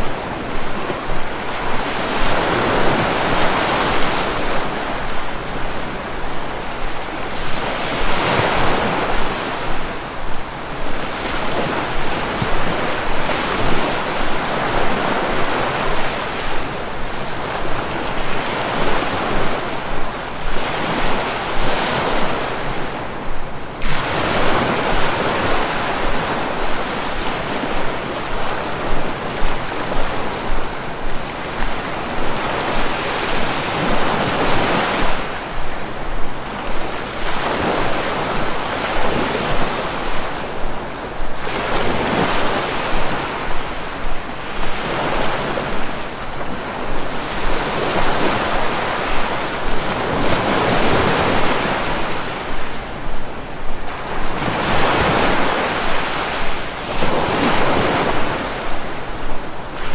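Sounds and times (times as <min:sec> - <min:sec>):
sea waves breaking on shore: 0:00.0 - 0:59.9
wind noise: 0:00.0 - 0:59.9.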